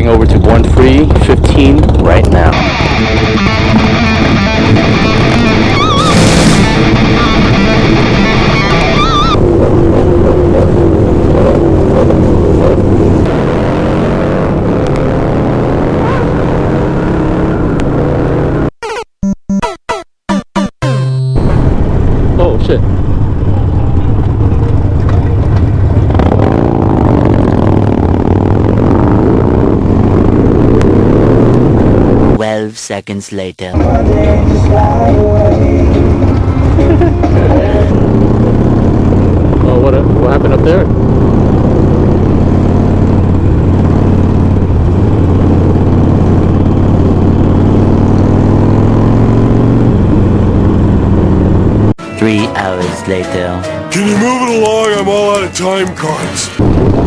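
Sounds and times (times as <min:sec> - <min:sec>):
motorcycle engines running: 0:00.0 - 0:18.7, 0:21.9 - 0:32.4, 0:33.8 - 0:52.0.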